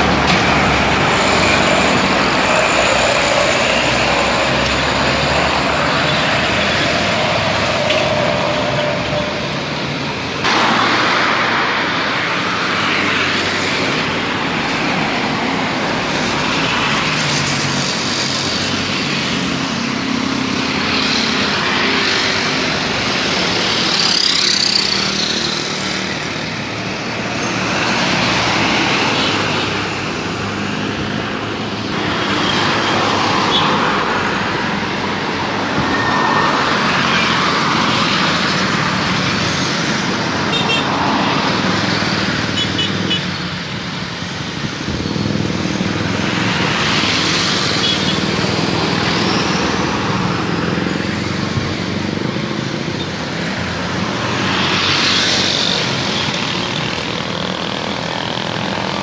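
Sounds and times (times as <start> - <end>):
trucks passing on highway: 0.0 - 59.0.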